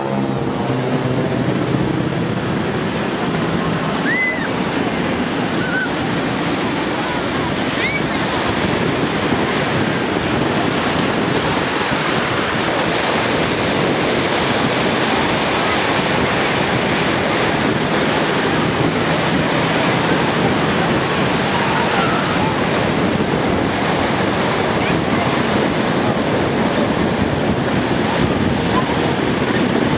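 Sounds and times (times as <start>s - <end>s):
surf breaking: 0.0s - 29.9s
wind rushing on microphone: 0.0s - 29.9s.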